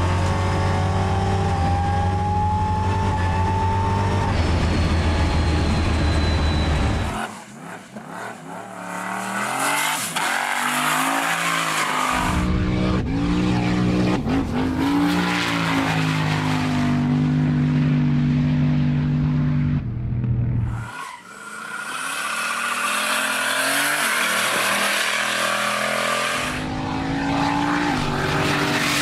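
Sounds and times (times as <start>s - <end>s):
drag car engine accelerating: 0.0s - 29.0s.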